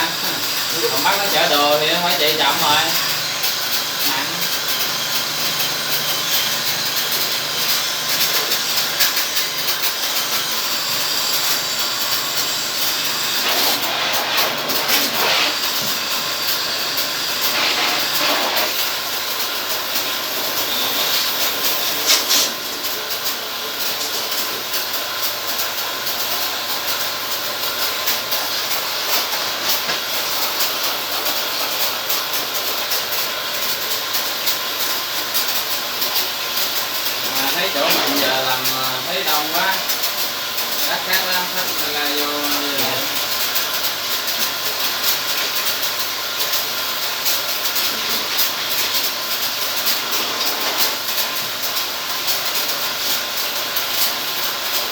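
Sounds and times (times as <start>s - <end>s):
water spray jet hissing: 0.0s - 54.9s.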